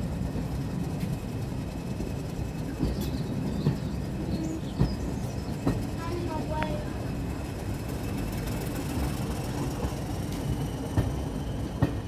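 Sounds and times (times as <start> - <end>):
train coach rumbling: 0.0 - 12.0.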